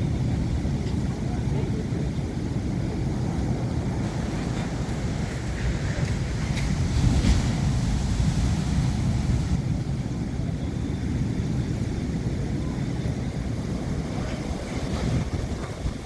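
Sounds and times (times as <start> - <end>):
sea surf: 0.0 - 16.0
wind rumbling on microphone: 0.0 - 16.0.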